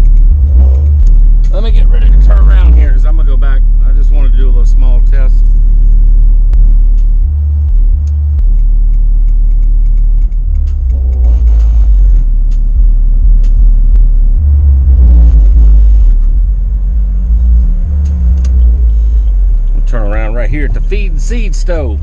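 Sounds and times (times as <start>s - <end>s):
bass-heavy music from subwoofer: 0.0s - 22.0s.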